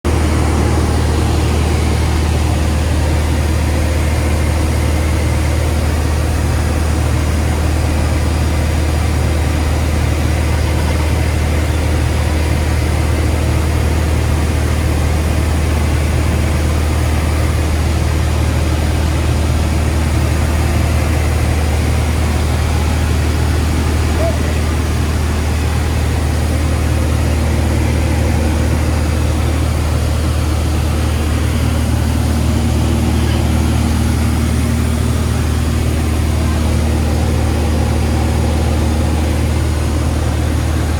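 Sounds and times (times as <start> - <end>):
airplane engine drone: 0.0 - 40.9.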